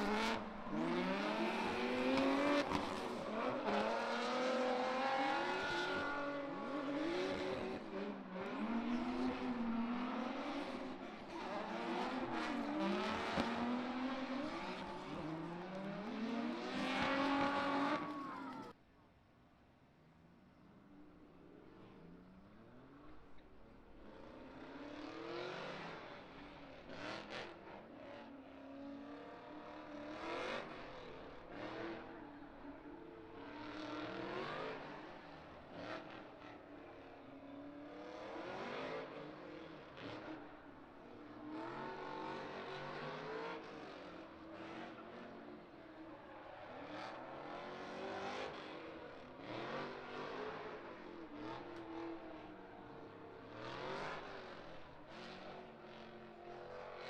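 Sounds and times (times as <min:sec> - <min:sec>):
car engines revving hard: 0:00.0 - 0:18.8, 0:21.6 - 0:57.0.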